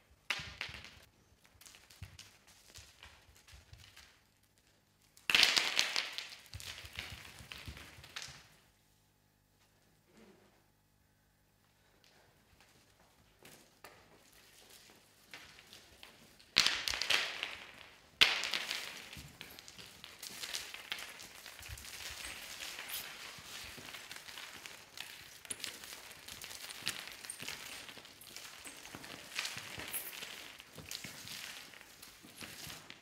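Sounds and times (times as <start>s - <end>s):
wrapped pieces crackling on floor: 0.3s - 8.7s, 11.8s - 33.0s.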